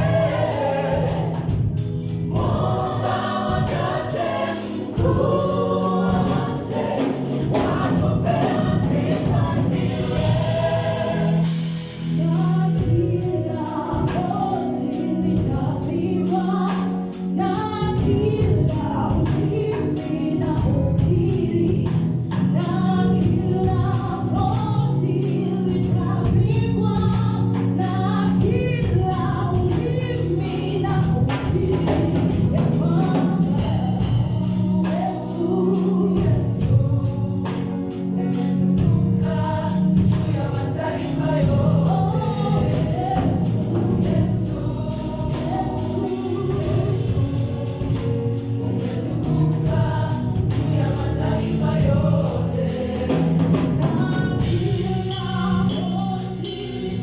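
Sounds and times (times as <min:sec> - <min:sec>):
rhythmic percussion: 0:00.0 - 0:15.6, 0:26.4 - 0:57.0
group of singers singing: 0:00.0 - 0:57.0
steady bass: 0:00.0 - 0:57.0.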